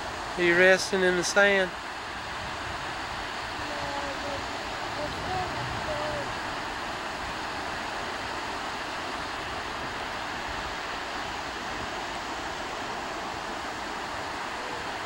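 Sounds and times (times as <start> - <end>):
surf rushing on beach: 0.0 - 15.0.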